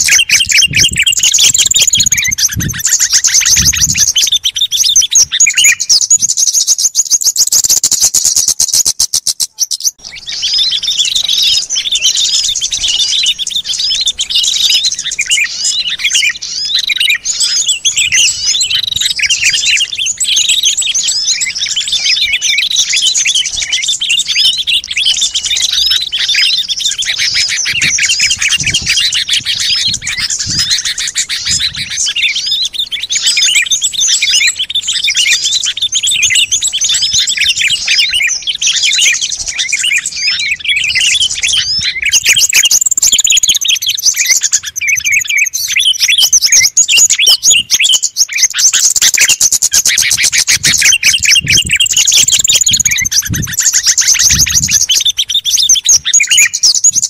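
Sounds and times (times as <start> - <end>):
chorus of small birds chirping: 0.0 - 57.0
fast high bird trill: 0.0 - 57.0.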